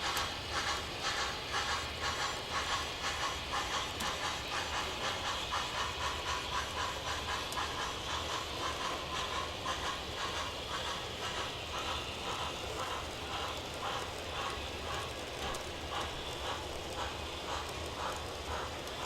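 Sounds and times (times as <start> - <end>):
model train running on track: 0.0 - 19.0
steam locomotive chuffing: 0.0 - 19.0.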